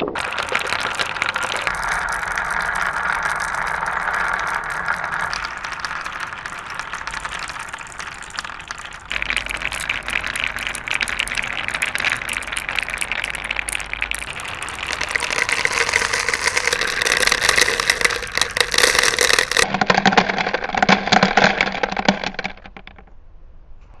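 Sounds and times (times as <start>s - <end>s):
marbles rolling along a track: 0.0s - 23.0s.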